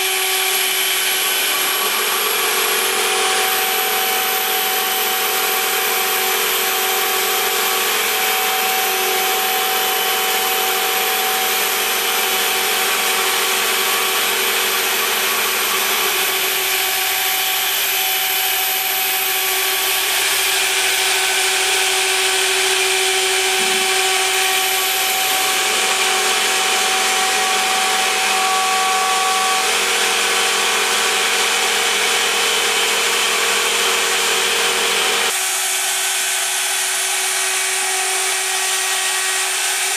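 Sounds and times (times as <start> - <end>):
spindle high whine: 0.0 - 35.3
engraving bit cutting noise: 0.0 - 39.9.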